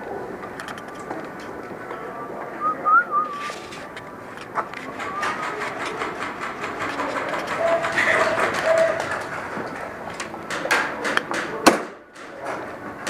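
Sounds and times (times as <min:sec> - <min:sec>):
steady indoor din: 0:00.0 - 0:13.0.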